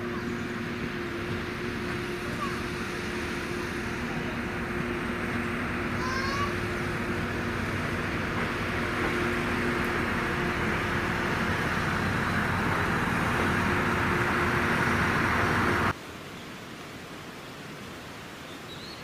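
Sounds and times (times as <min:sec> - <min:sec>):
diesel railcar engine drone: 0:00.0 - 0:16.0
wheels rolling on rails: 0:00.0 - 0:16.0.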